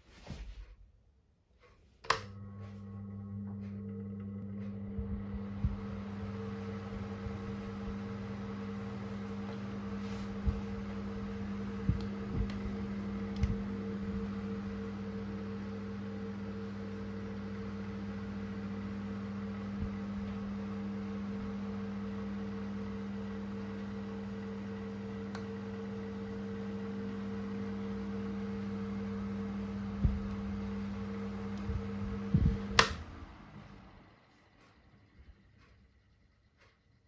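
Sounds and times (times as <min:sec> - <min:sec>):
electric fan humming: 0:01.6 - 0:37.0.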